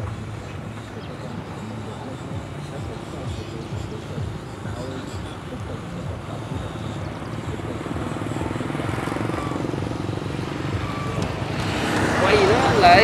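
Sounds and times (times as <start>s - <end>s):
small motor pulsing: 0.0s - 13.0s.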